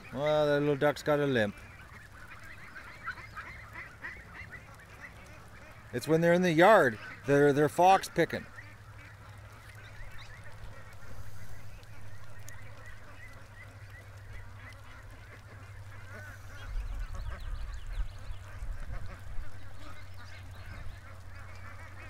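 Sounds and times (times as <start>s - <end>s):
ducks quacking: 0.0s - 22.0s
geese honking: 0.0s - 22.0s.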